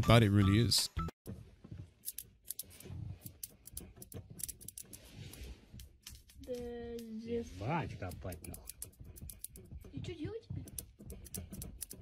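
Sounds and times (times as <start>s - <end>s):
faint clicks and rustles: 1.3s - 12.0s.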